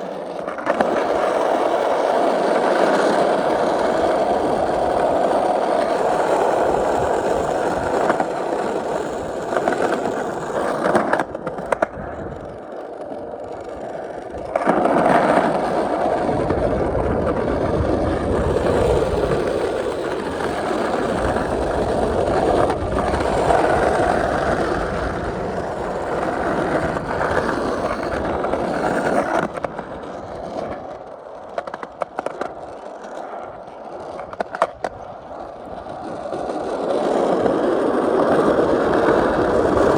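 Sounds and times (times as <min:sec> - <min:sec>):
skateboard wheels rolling on pavement: 0:00.0 - 0:39.9.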